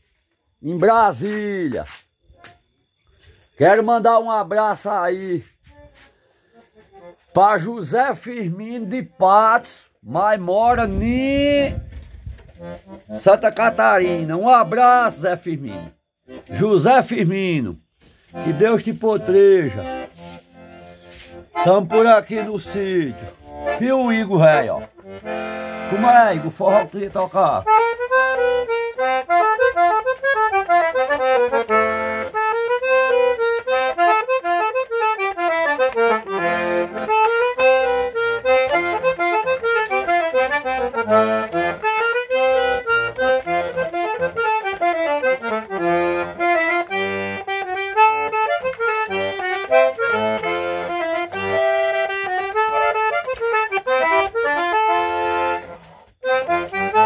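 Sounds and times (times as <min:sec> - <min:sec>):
button accordion playing lively melody: 0:00.6 - 0:02.6, 0:03.2 - 0:57.0.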